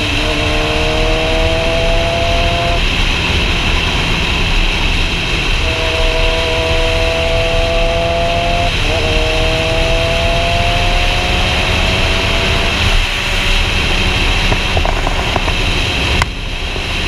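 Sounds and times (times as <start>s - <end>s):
motorcycle engine hum: 0.0s - 17.0s
wind rushing on helmet: 0.0s - 17.0s.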